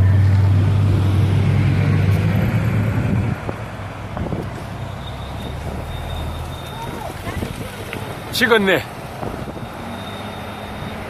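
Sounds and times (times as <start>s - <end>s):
motor vehicle engine hum: 0.0s - 11.0s
road traffic noise: 0.0s - 11.0s.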